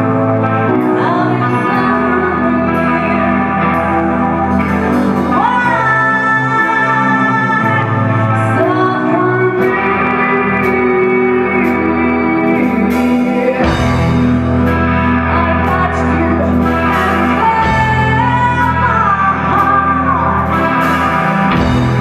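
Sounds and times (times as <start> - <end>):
bass: 0.0 - 22.0
electric guitar chords: 0.0 - 22.0
woman singing: 0.0 - 22.0.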